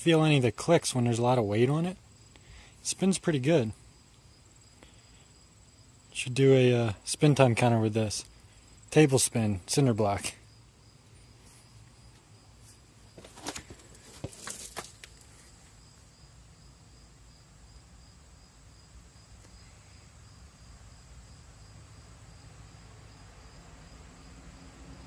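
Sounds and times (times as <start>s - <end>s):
crickets chirping: 0.2s - 25.0s.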